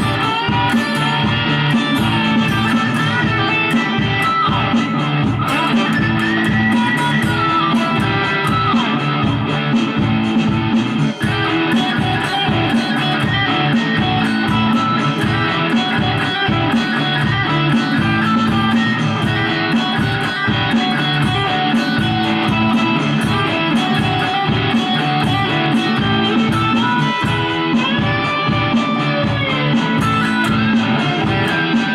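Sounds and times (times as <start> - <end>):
electric guitar lead lines: 0.0 - 31.9
rhythm guitar backing track: 0.0 - 31.9
steady drum beat: 0.0 - 31.9.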